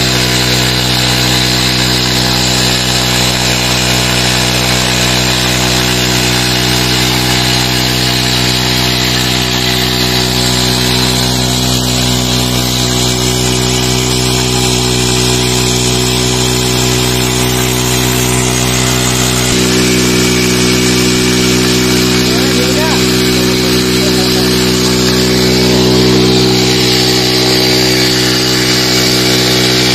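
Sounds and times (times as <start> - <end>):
motorcycle engine running steadily: 0.0 - 29.9.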